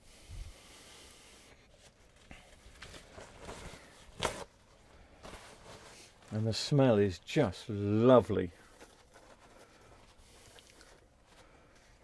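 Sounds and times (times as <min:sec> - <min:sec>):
light rustling and rubbing: 0:01.4 - 0:12.0.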